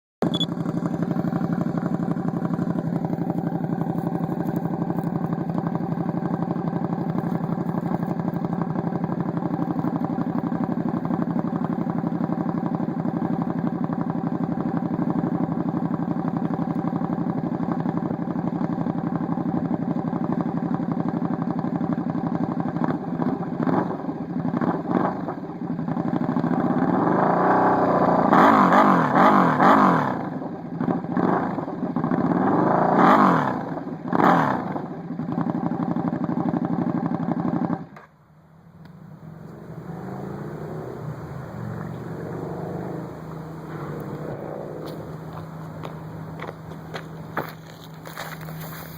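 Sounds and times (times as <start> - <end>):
motorcycle engine idling and revving: 0.2 - 48.9.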